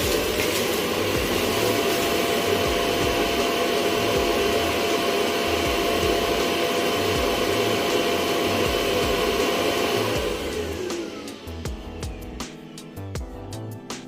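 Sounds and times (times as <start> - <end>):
robot vacuum whirring: 0.0 - 11.7.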